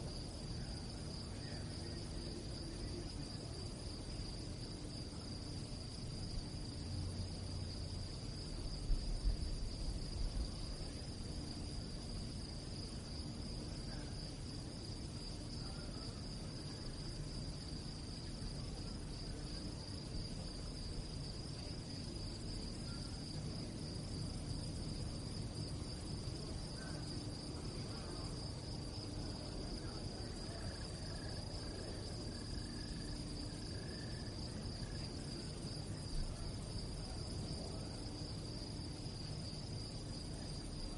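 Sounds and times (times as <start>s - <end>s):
crickets chirping: 0.0s - 40.9s
low background rumble: 0.0s - 40.9s.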